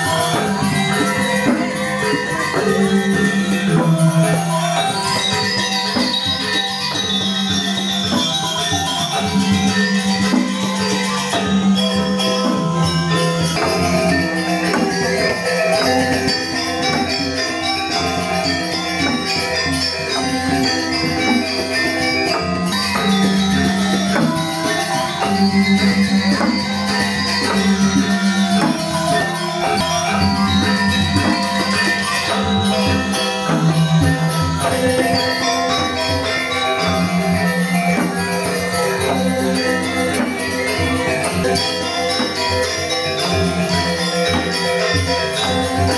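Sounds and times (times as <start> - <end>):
gamelan metallophones ringing: 0.0 - 45.9.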